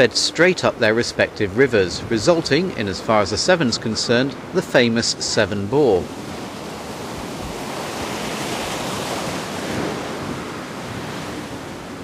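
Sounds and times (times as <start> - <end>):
rush of churning water: 0.0 - 12.0.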